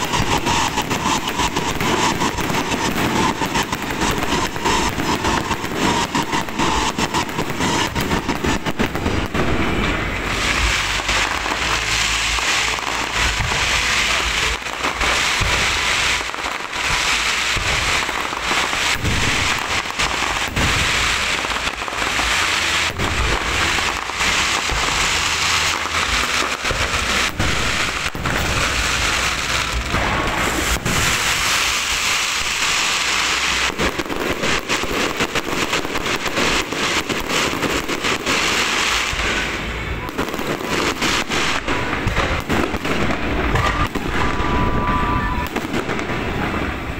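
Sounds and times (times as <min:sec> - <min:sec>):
firecrackers crackling: 0:00.0 - 0:46.9
sharp firework reports: 0:00.0 - 0:46.9.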